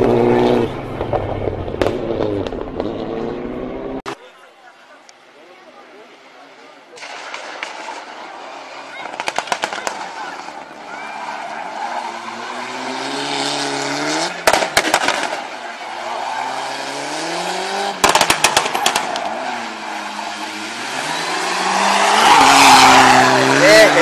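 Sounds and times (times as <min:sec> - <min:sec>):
rally car engine revving: 0:00.0 - 0:04.0, 0:08.0 - 0:24.0.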